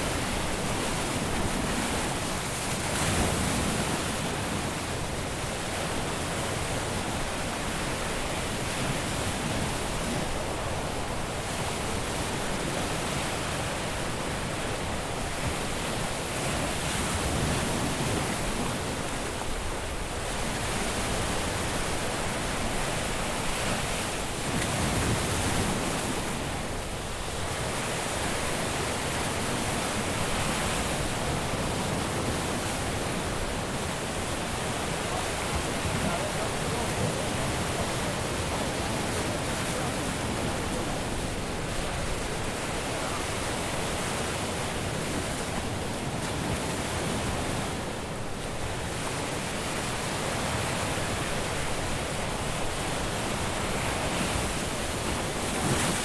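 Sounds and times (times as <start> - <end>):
waves breaking on beach: 0.0 - 56.0.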